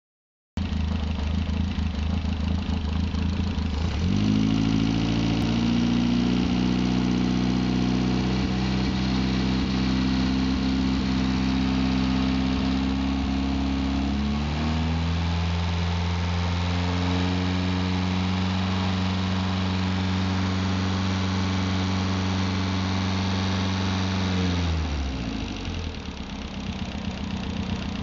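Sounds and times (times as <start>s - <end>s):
four-cylinder car engine running: 0.6s - 28.0s.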